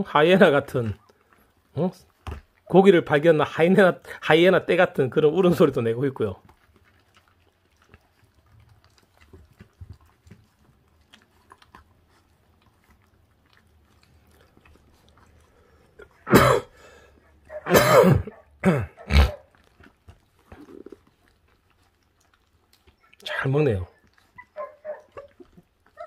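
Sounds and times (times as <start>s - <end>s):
faint wet clicks: 0.0s - 26.0s
puppies chewing meat: 0.0s - 26.0s.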